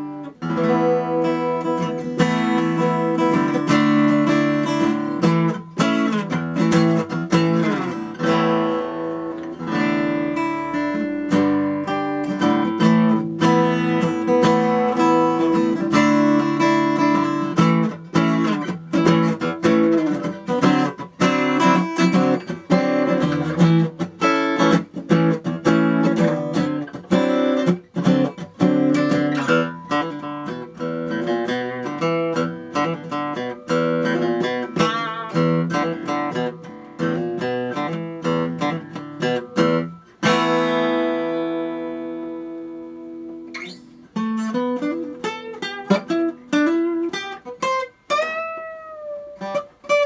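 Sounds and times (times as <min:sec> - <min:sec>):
acoustic guitar strumming and picking: 0:00.0 - 0:50.0.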